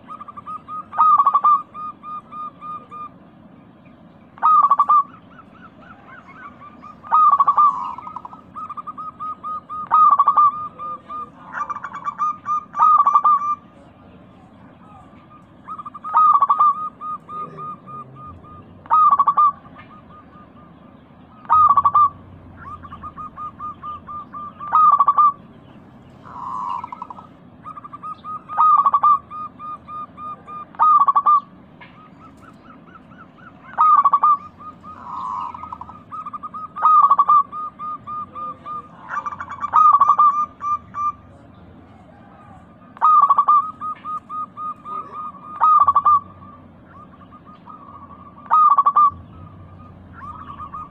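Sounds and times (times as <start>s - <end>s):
dove cooing song: 0.0s - 50.9s.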